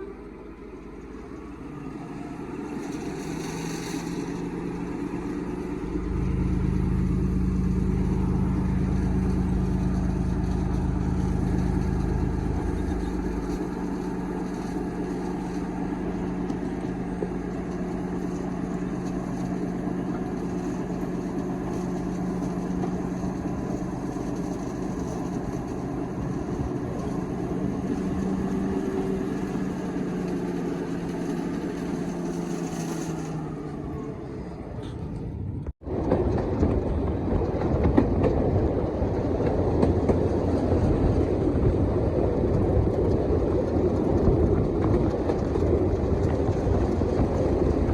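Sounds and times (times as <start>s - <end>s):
diesel locomotive engine running: 0.0s - 47.9s
heavy low rumble: 0.0s - 47.9s.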